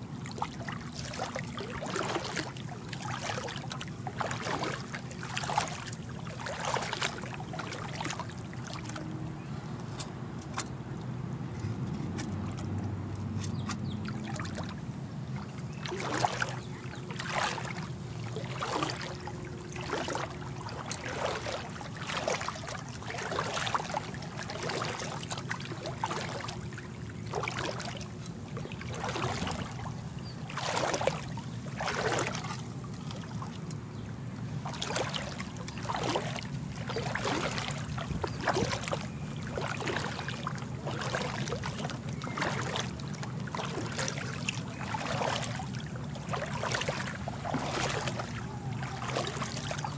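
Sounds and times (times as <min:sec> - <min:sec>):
footsteps wading through water: 0:00.0 - 0:49.9.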